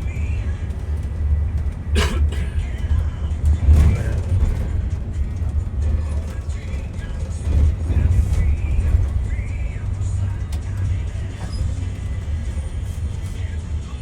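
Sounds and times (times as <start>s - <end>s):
faint music: 0.0s - 14.0s
vehicle interior rumble: 0.0s - 14.0s.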